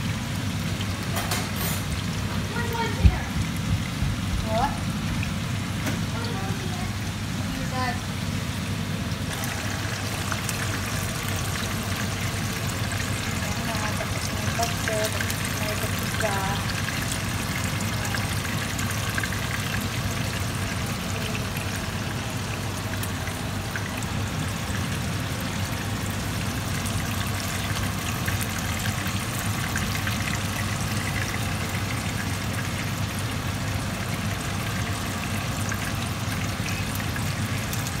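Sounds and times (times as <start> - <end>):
fish sizzling in hot oil: 0.0 - 38.0.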